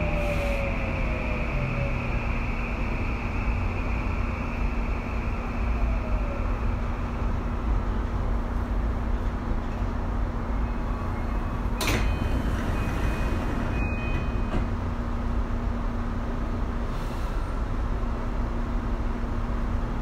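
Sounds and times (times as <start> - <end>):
train rumble and hum: 0.0 - 20.0.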